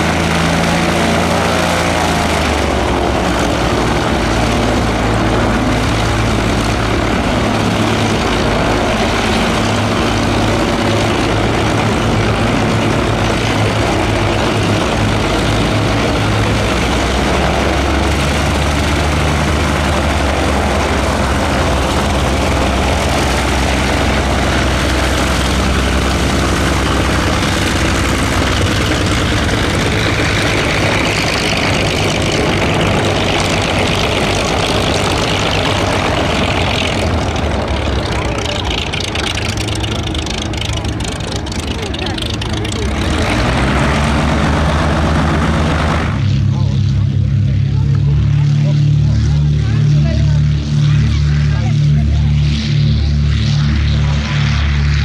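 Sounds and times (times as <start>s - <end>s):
propeller plane engines droning: 0.0s - 55.0s.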